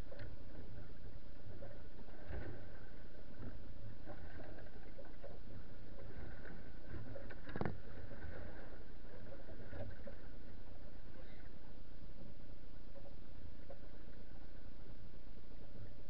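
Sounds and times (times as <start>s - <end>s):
muffled rumble: 0.0s - 16.0s.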